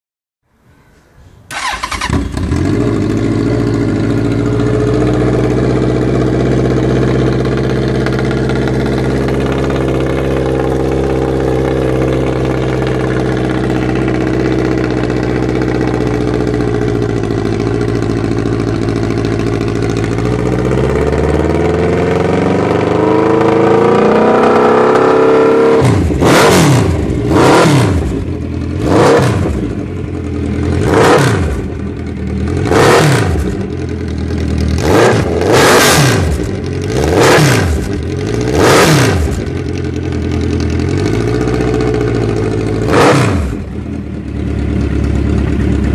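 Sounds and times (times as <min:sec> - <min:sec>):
motorcycle engine idling and revving: 0:01.5 - 0:45.9.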